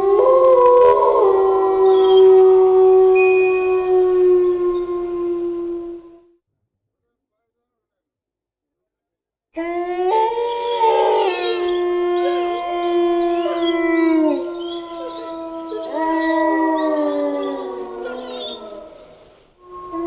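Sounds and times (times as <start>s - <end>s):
animals howling together: 0.0s - 6.2s, 9.6s - 20.0s.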